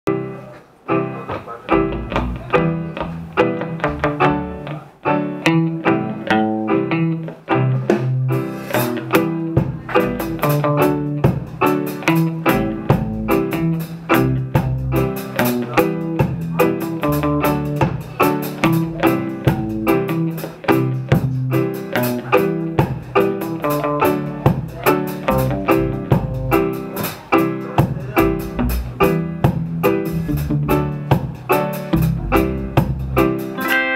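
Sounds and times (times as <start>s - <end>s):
live band playing instrumental: 0.1s - 33.9s.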